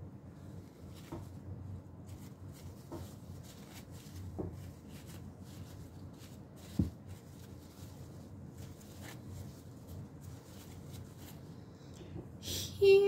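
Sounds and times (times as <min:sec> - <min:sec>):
tissue paper rustling: 0:00.4 - 0:11.9.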